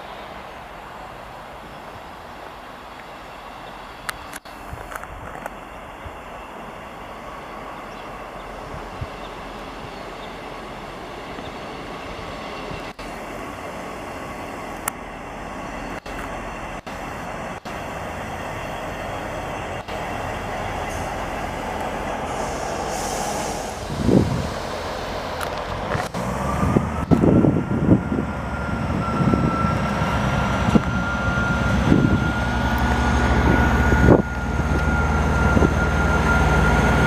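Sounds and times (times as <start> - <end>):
diesel train rumbling: 0.0 - 37.0.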